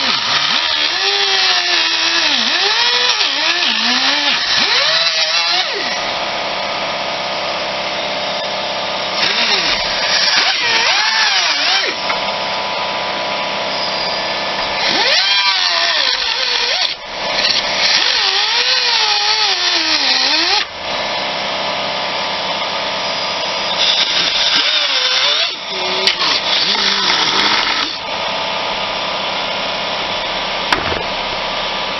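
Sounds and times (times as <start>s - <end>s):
cutoff wheel cutting whine: 0.0s - 31.9s.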